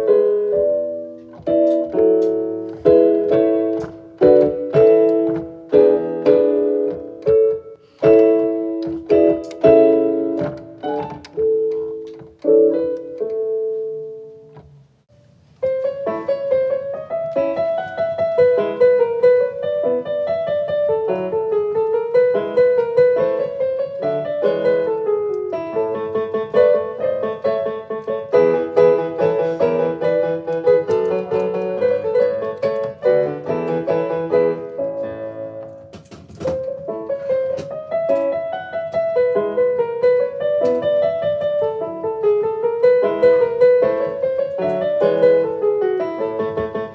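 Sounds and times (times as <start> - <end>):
gentle piano music: 0.0 - 46.9.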